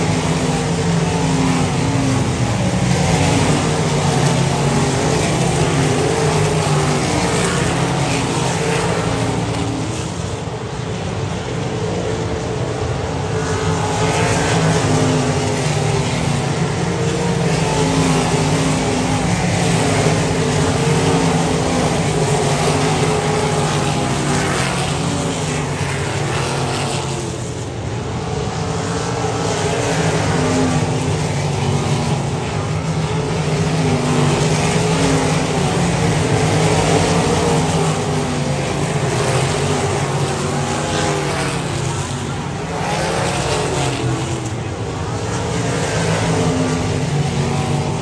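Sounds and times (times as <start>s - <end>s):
race car engines at high revs: 0.0s - 48.0s.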